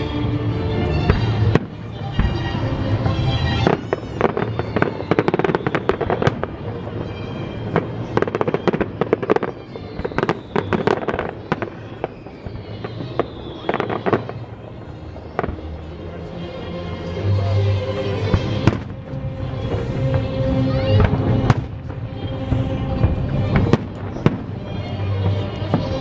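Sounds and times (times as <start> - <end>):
fireworks bangs and pops: 0.8 - 15.9, 18.3 - 26.0.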